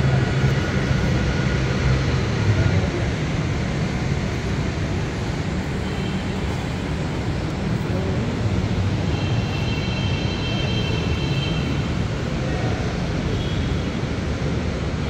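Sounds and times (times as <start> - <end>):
low rumble of metro platform: 0.0 - 15.0.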